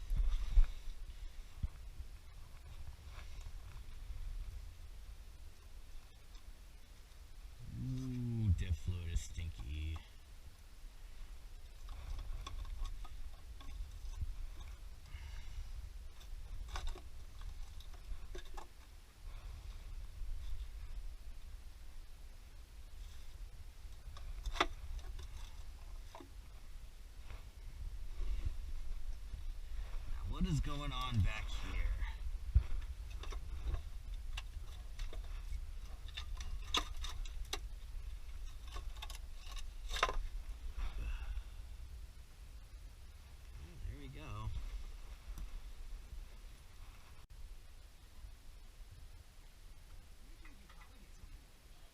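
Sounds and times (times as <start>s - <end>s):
low steady rumble: 0.0s - 51.9s.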